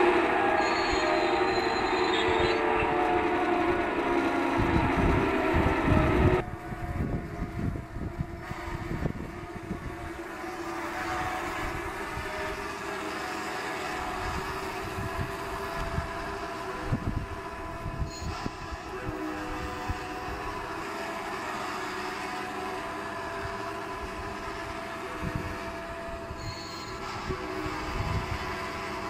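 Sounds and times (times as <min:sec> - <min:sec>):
model locomotive diesel sound: 0:00.0 - 0:29.0
train knocking and clattering: 0:00.0 - 0:29.0.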